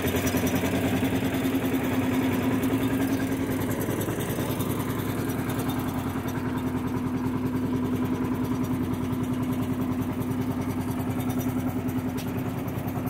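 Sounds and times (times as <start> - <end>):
diesel engine pulsing: 0.0 - 13.0.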